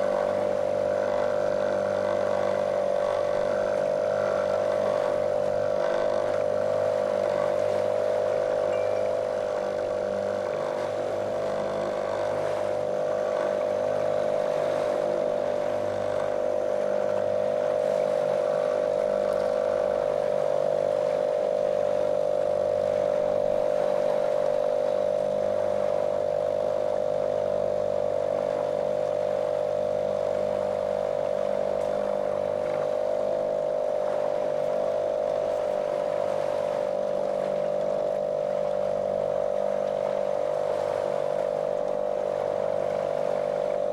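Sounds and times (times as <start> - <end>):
outboard motor droning: 0.0 - 43.9.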